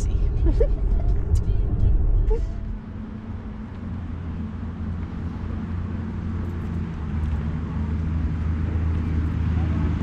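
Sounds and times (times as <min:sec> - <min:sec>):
vehicle driving rumble: 0:00.0 - 0:10.0.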